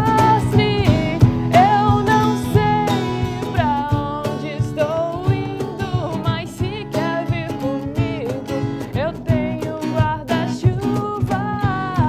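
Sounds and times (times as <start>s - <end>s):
strummed acoustic guitar: 0.0s - 12.0s
woman singing: 0.0s - 12.0s.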